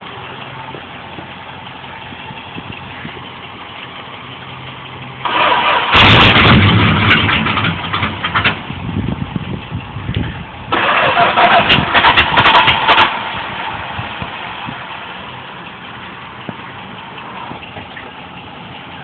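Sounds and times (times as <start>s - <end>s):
truck engine starting and running: 0.0s - 19.0s.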